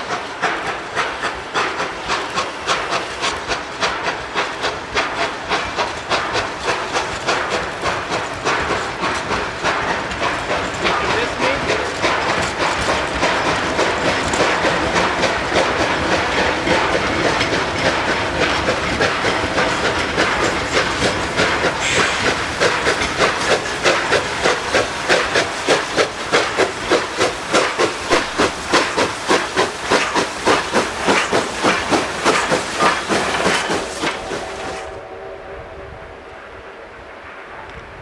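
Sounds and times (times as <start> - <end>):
hiss of steam: 0.0 - 35.3
steam locomotive chuffing: 0.0 - 35.9
train cars rolling by: 0.0 - 38.0.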